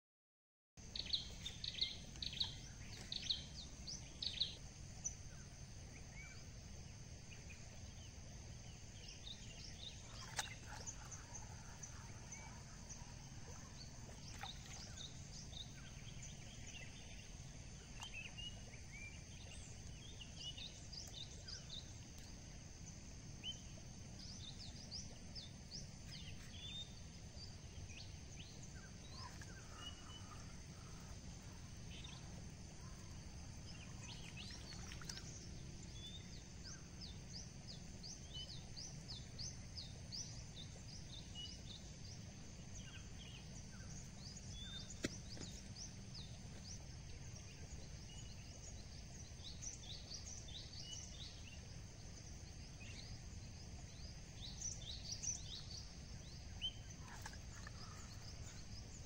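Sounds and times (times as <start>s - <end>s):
birds chirping: 0.8s - 59.0s
low outdoor background noise: 0.8s - 59.0s.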